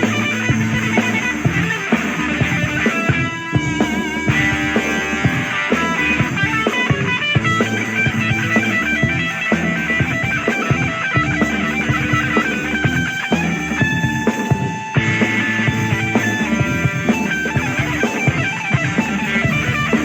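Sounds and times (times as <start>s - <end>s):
electric guitar melody: 0.0s - 20.0s
rock drum beat: 0.0s - 20.0s.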